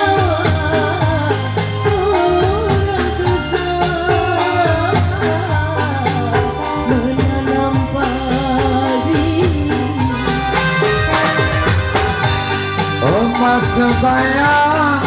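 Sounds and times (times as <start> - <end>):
drum and tambourine beat: 0.0 - 15.0
woman singing: 0.0 - 15.0.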